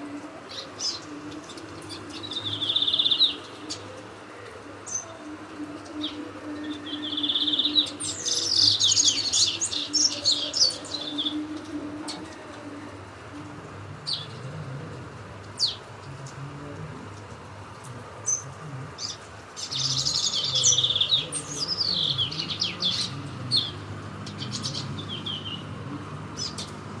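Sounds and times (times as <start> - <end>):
songbirds chirping and singing: 0.0 - 27.0.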